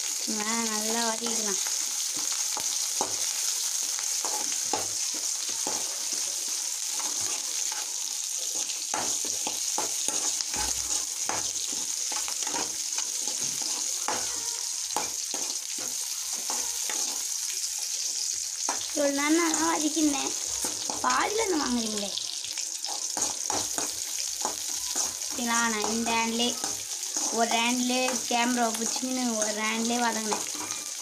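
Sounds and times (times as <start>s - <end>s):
onions sizzling in a pan: 0.0s - 31.0s
spatula scraping a pan: 1.6s - 21.7s, 22.8s - 31.0s.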